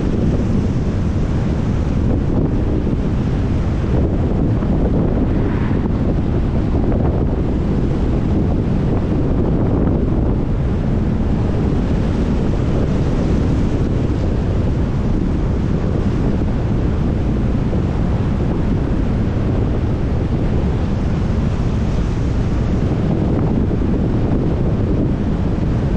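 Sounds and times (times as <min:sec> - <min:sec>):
vehicle tyres and engine rumble: 0:00.0 - 0:25.9
windy hiss: 0:00.0 - 0:25.9.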